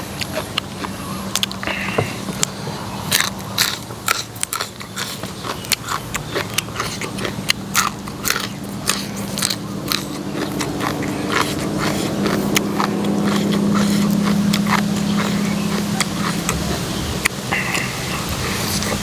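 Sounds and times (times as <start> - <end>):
crunchy chewing: 0.0 - 19.0
steady low hum: 0.0 - 19.0.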